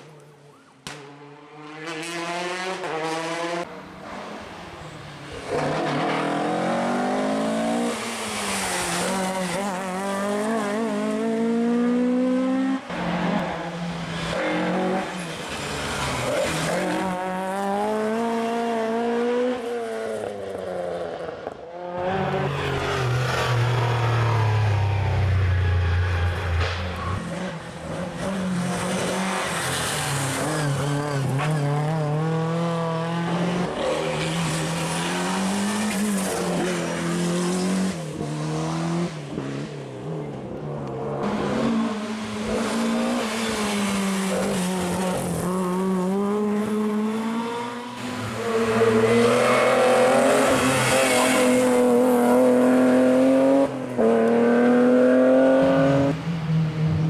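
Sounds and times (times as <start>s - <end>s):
rally car engines revving: 0.8s - 57.0s.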